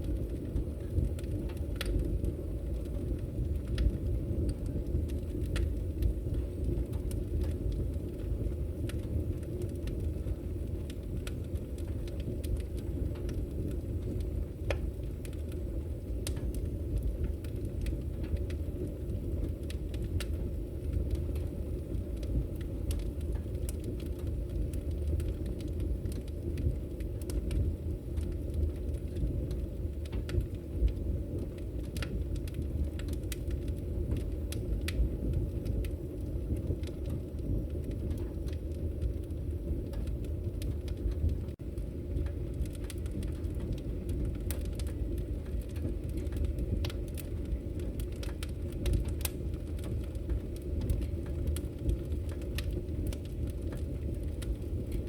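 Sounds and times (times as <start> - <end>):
fire crackling and popping: 0.0 - 55.0
fire rumbling: 0.0 - 55.0.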